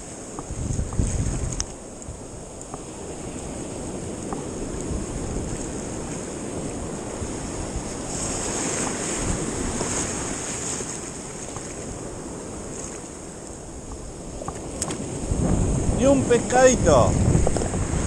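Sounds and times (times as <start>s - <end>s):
shallow surf washing: 0.0s - 18.0s
wind buffeting microphone: 0.2s - 18.0s.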